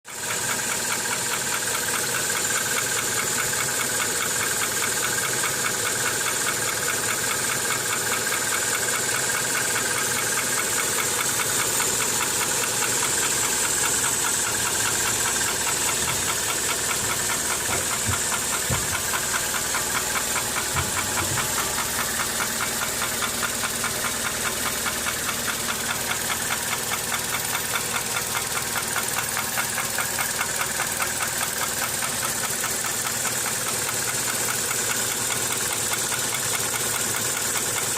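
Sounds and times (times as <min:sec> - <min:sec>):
car engine with rhythmic knock: 0:00.1 - 0:37.9.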